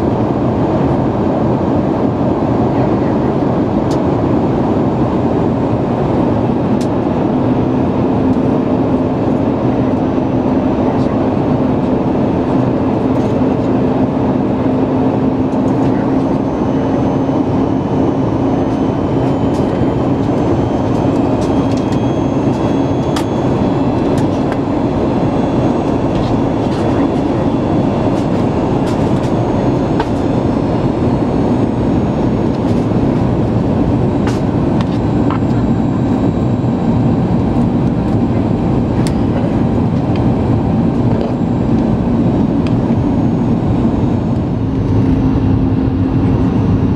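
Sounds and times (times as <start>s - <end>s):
airplane cabin roar: 0.0s - 46.9s.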